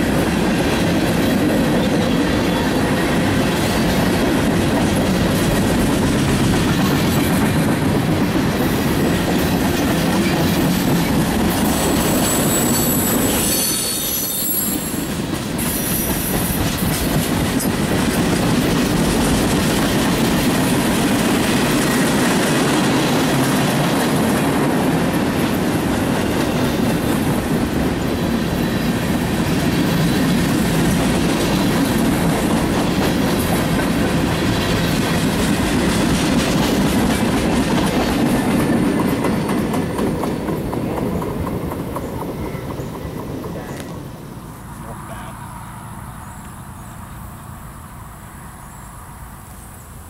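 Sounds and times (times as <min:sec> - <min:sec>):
steel train wheels on rails: 0:00.0 - 0:50.0.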